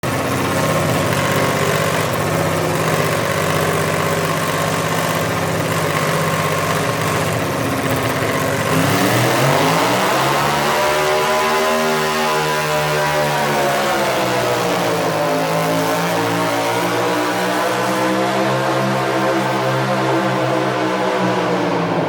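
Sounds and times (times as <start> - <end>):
tractor engine idling and revving: 0.0 - 22.0.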